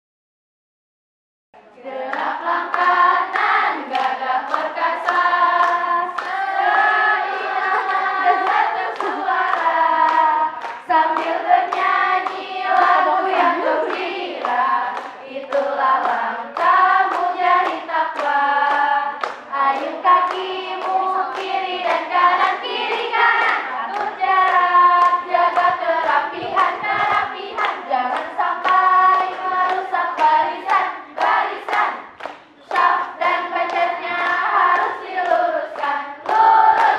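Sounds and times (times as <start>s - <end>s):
group of voices singing: 1.6s - 36.9s
hand claps: 2.0s - 36.9s.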